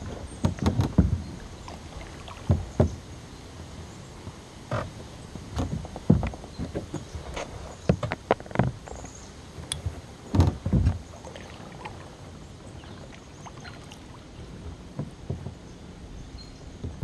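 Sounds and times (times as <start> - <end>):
paddle strokes with splashes: 0.0 - 17.0.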